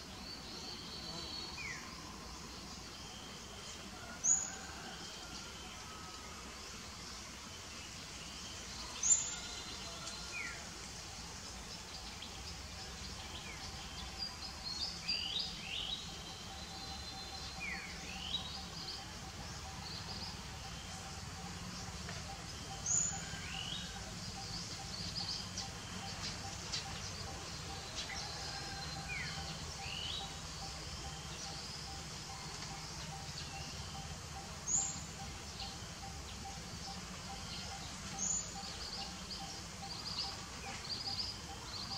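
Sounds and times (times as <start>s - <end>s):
outdoor background noise: 0.0s - 41.9s.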